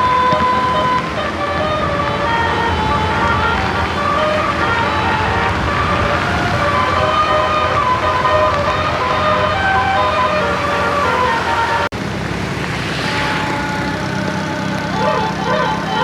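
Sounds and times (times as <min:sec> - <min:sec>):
bus musical horn tune: 0:00.0 - 0:11.9, 0:12.9 - 0:16.0.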